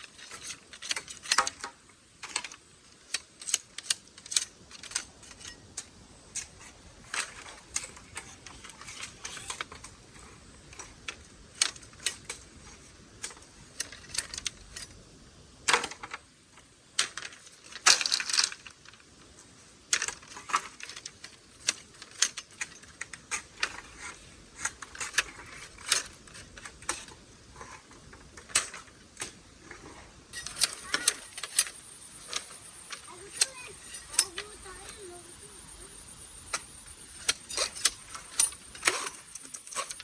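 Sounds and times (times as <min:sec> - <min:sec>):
light clicks and clatters: 0:00.0 - 0:15.0, 0:15.6 - 0:35.2, 0:36.5 - 0:40.0.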